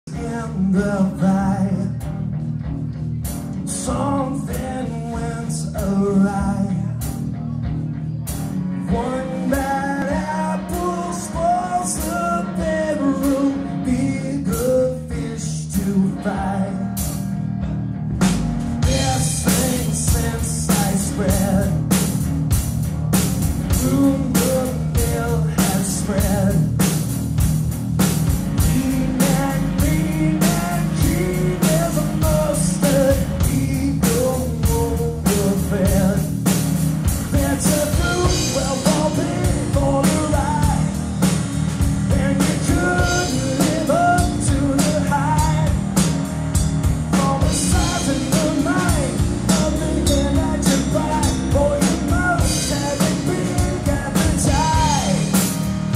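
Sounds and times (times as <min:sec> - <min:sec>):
bass guitar: 0:00.0 - 0:55.9
electric guitar: 0:00.1 - 0:55.9
drum kit beat: 0:08.3 - 0:16.0, 0:16.9 - 0:55.9.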